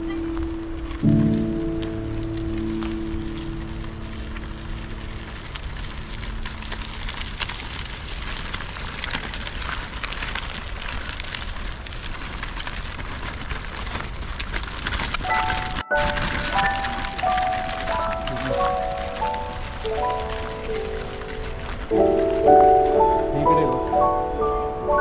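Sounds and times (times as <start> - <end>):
stroller wheels rolling: 0.0 - 25.0
footsteps crunching on gravel: 1.0 - 23.4.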